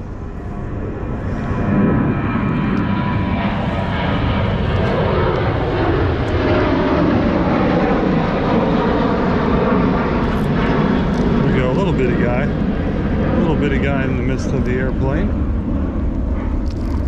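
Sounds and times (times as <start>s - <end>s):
airplane flying overhead: 0.0s - 17.0s.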